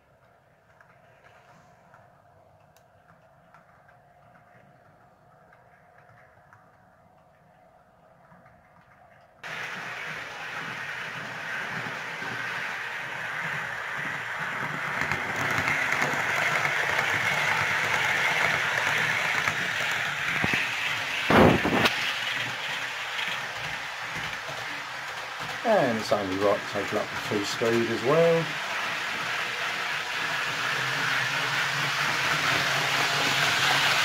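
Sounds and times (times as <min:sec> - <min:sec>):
model train whirring on track: 0:00.0 - 0:34.0.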